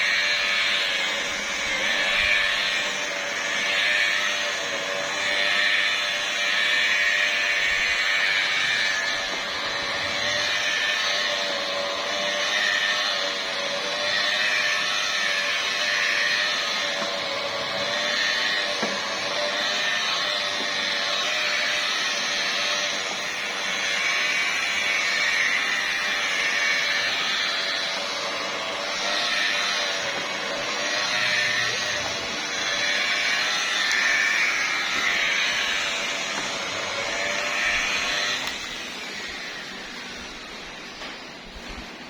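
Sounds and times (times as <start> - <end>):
electric polisher motor humming: 0.0 - 42.0
polishing pad hissing on paint: 0.0 - 42.0.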